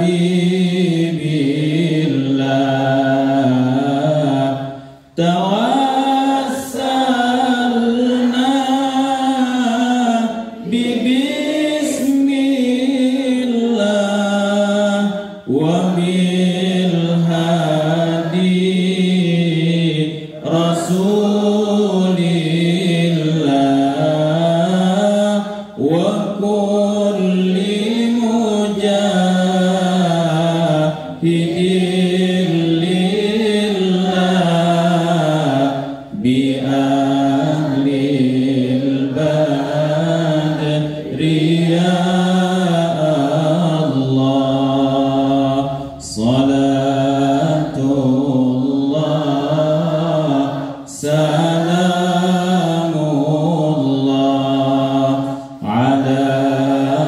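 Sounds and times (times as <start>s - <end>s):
man chanting through loudspeakers: 0.0s - 57.0s.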